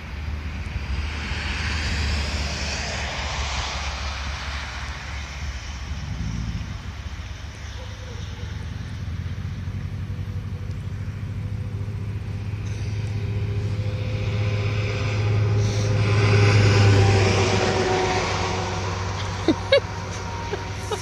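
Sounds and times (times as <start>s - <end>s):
truck engine running hard: 0.0s - 21.0s.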